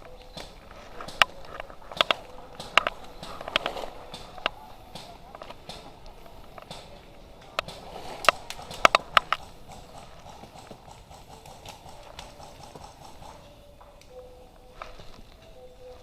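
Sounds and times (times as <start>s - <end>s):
fast even patter: 0.0s - 13.6s
airsoft guns firing: 0.1s - 13.4s.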